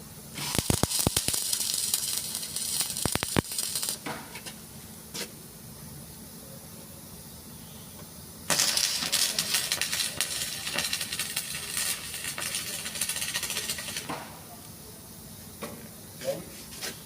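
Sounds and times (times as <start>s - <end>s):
arc welding crackling sizzle: 0.0s - 5.4s, 7.9s - 17.0s.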